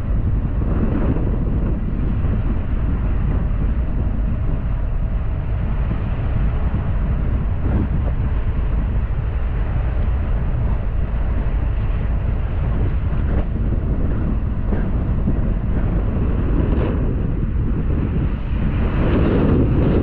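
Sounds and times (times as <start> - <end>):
car engine and tyre noise: 0.0 - 20.0
wind buffeting microphone: 0.0 - 20.0.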